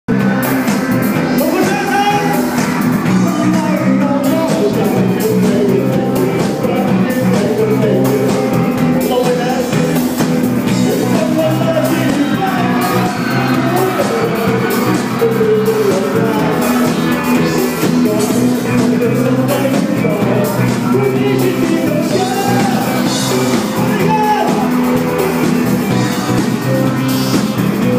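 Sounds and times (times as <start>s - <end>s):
live rock band playing: 0.1s - 27.9s
person singing: 0.1s - 27.9s.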